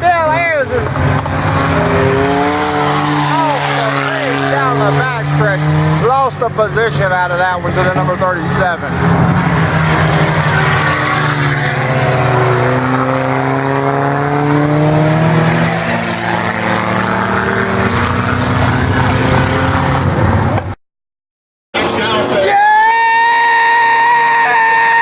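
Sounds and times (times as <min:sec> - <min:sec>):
race car engines passing: 0:00.0 - 0:20.8, 0:21.8 - 0:25.0.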